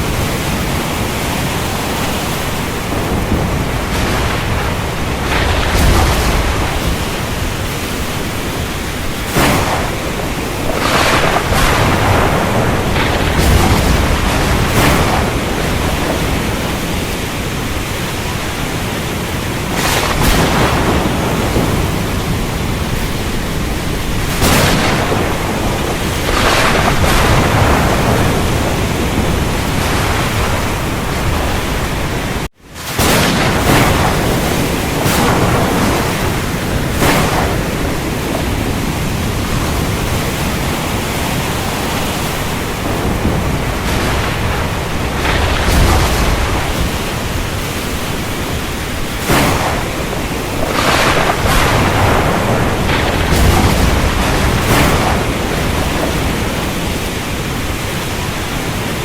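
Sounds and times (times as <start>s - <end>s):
heavy rain hissing: 0.0s - 59.0s
low rumbling thunder: 0.0s - 59.0s.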